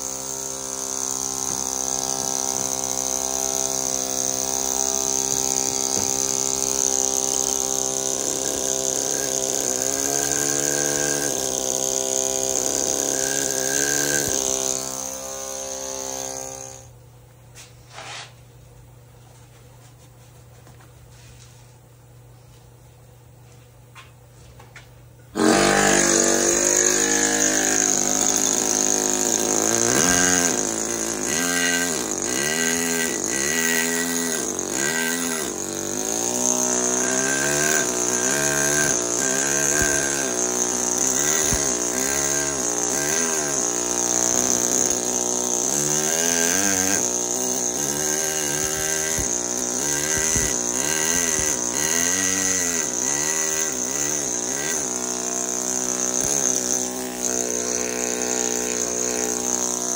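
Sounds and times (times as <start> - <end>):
pneumatic hammer chattering: 0.0 - 16.9, 25.4 - 59.9.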